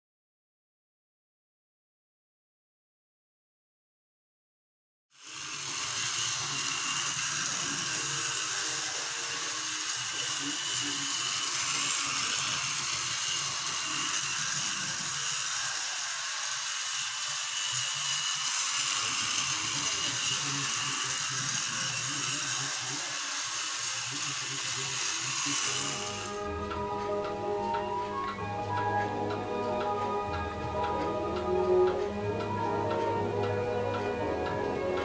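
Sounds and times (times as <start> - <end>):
model train running on track: 5.2 - 35.0.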